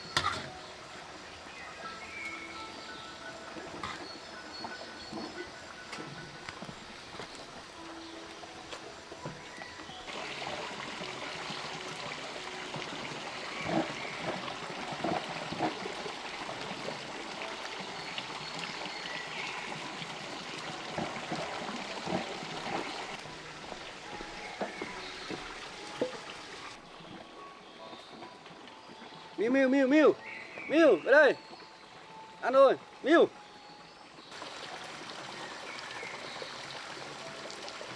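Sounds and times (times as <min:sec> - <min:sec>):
running water hissing: 0:00.0 - 0:37.9.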